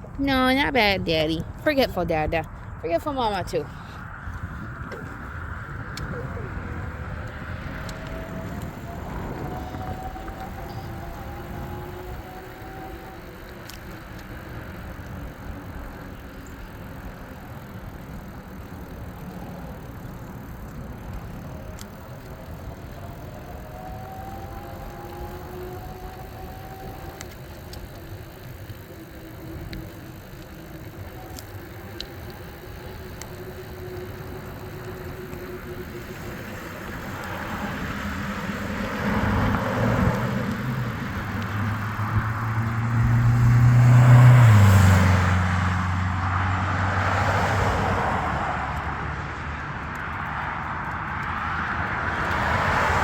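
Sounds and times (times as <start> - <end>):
wind and road noise: 0.0 - 53.0
vehicle passing by: 0.2 - 53.0.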